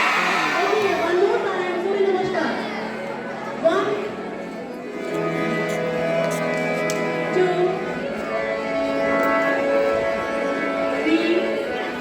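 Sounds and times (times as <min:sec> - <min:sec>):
instrumental background music: 0:00.8 - 0:12.0.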